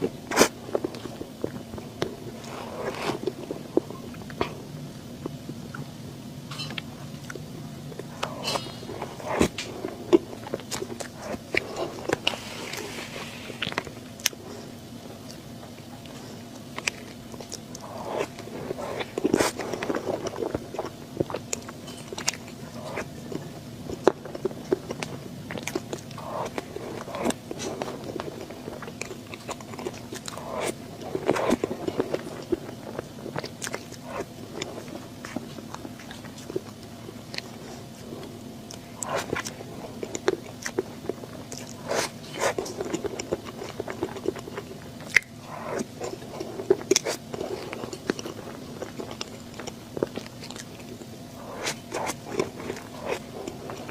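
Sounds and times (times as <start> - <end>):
person eating cake: 0.0 - 53.9
wet chewing: 0.0 - 53.9.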